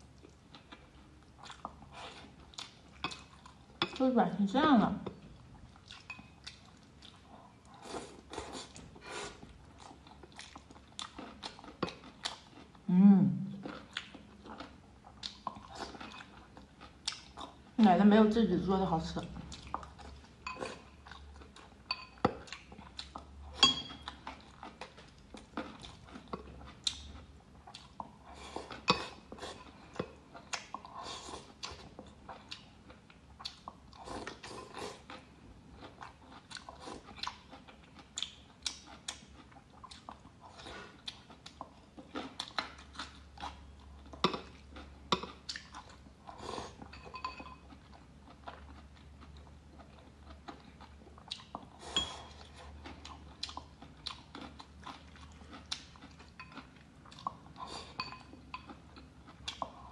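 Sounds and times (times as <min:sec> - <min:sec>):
person chewing and biting: 0:00.2 - 0:03.6, 0:05.8 - 0:12.8, 0:13.6 - 0:17.6, 0:22.3 - 0:46.9, 0:47.6 - 0:59.9.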